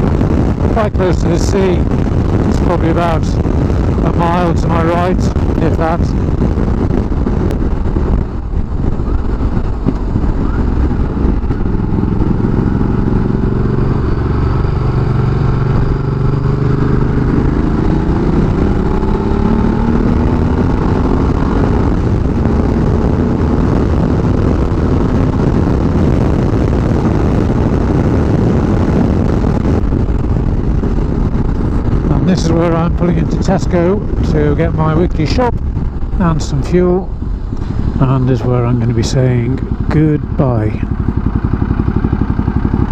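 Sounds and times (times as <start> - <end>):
motorcycle engine accelerating: 0.0 - 42.9
wind rushing on microphone: 0.0 - 42.9.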